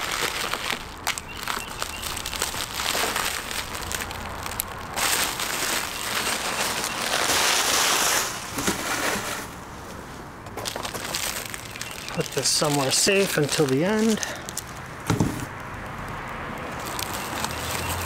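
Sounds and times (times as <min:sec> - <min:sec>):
plastic wrap crinkling: 0:00.0 - 0:09.4, 0:10.6 - 0:14.8, 0:16.8 - 0:18.0.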